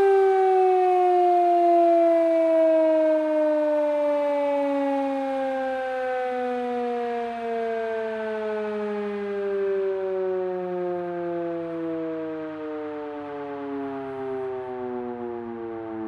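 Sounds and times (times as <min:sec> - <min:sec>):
siren winding down: 0:00.0 - 0:16.0.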